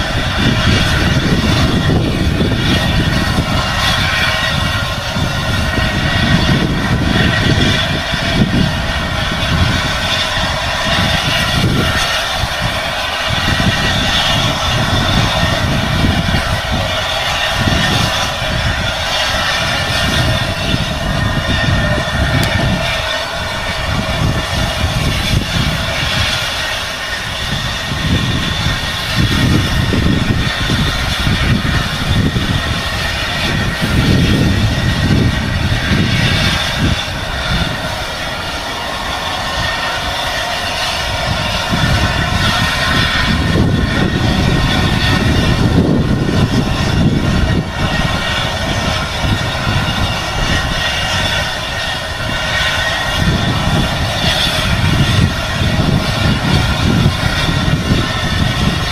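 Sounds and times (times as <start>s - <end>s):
steam train running rumble: 0.0s - 58.9s.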